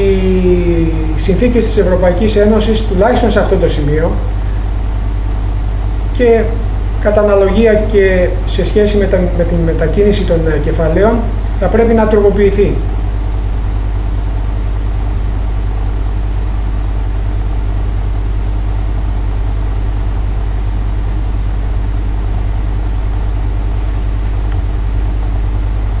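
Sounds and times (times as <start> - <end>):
buzzy electrical hum: 0.0 - 26.0.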